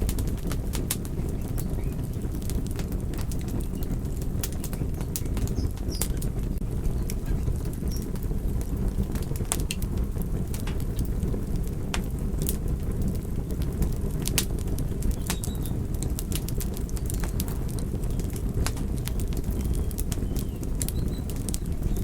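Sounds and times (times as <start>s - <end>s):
fire crackling and popping: 0.0s - 22.0s
low rushing of flames: 0.0s - 22.0s.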